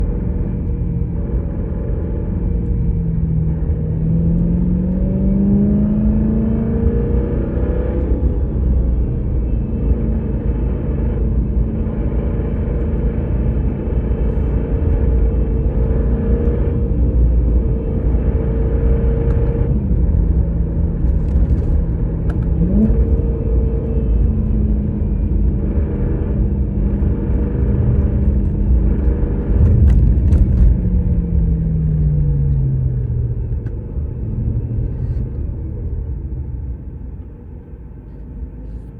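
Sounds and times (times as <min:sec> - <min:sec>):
car engine revving: 0:00.0 - 0:36.3.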